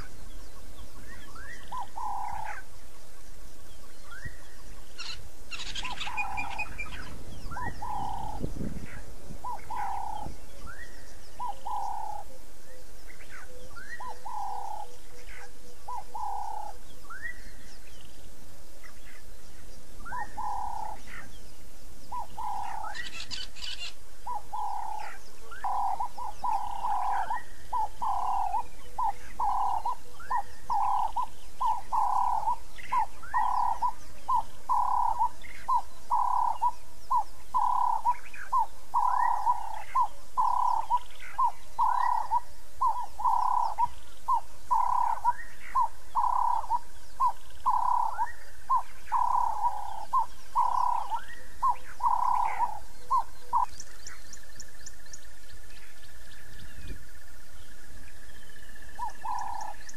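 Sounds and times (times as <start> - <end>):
birds calling low notes: 0.0 - 59.9.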